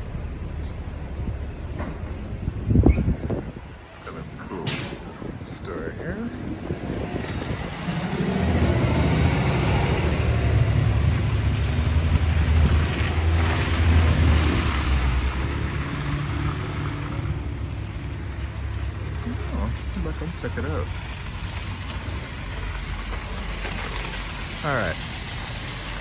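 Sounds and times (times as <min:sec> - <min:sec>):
vehicle engine drone: 0:00.0 - 0:26.0.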